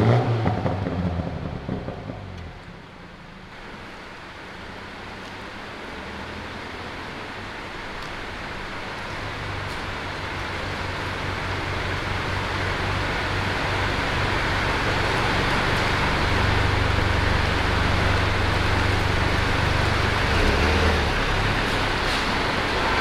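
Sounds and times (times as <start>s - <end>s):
car engine humming at low revs: 0.0s - 23.0s.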